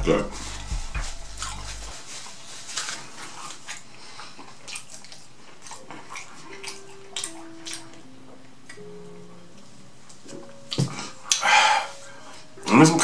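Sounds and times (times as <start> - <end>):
person chewing food: 0.4 - 9.4, 10.4 - 12.0.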